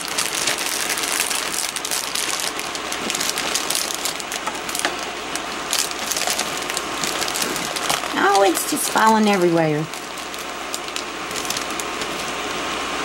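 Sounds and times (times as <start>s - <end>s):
leaves rustling: 0.0s - 12.6s
plastic bag crinkling: 0.0s - 12.6s.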